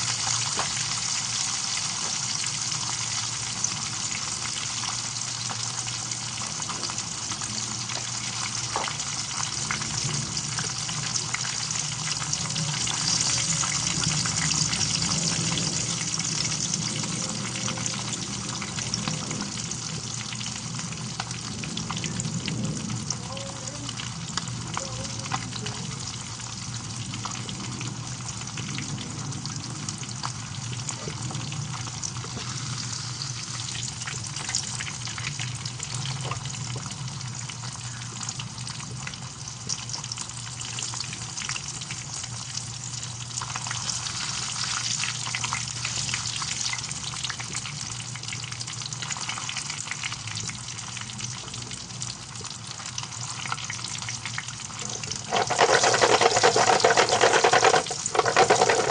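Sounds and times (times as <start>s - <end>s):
fish frying in hot oil: 0.0s - 58.9s.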